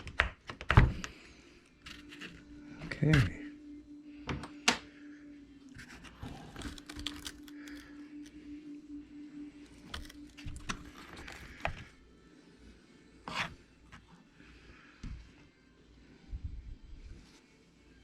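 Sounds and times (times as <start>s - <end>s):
faint steady hum: 0.9s - 18.0s.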